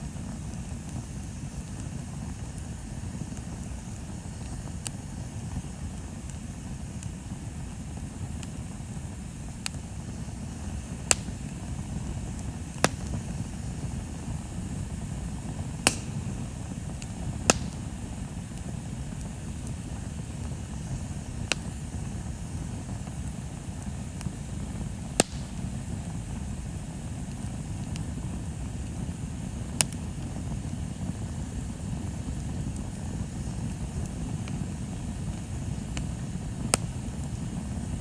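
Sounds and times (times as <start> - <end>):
bonfire crackling pops: 0.0 - 38.0
bonfire low rumble: 0.0 - 38.0.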